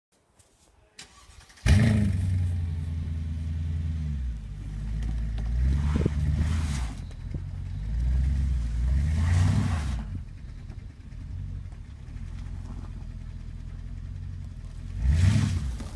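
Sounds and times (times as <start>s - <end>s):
car engine starting and revving: 1.0s - 15.9s.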